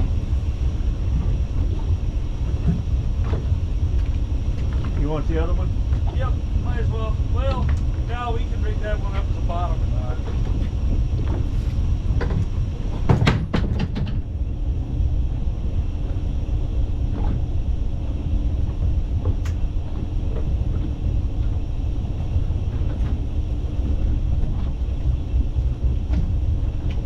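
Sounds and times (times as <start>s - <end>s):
boat engine rumbling: 0.0s - 27.0s.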